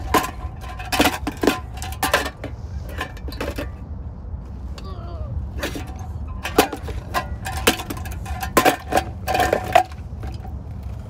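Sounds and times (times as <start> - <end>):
toy digger clanking and scraping sand: 0.0 - 3.9, 5.6 - 11.0.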